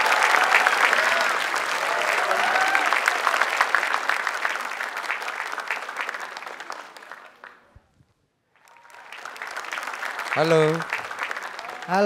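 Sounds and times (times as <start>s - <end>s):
audience applauding: 0.0s - 7.8s, 8.6s - 12.0s.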